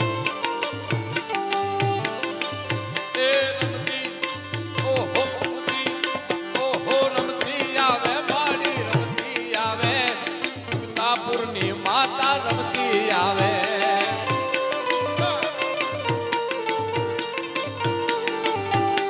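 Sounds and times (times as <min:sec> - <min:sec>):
devotional folk music: 0:00.0 - 0:19.0
hand drum beat: 0:00.0 - 0:19.0
person singing: 0:00.0 - 0:19.0.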